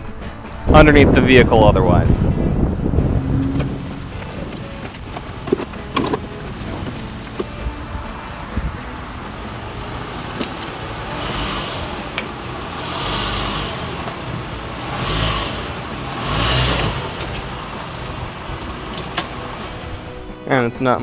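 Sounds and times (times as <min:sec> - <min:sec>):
van engine revving: 0:02.1 - 0:20.4.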